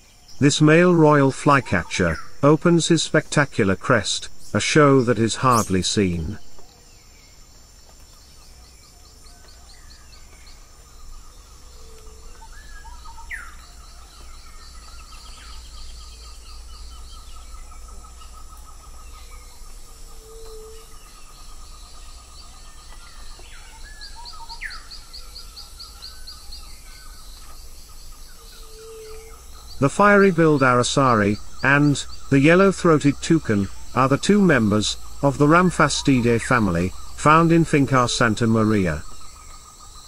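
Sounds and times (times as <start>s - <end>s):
birds calling: 0.0s - 40.0s
insects trilling: 0.0s - 40.0s.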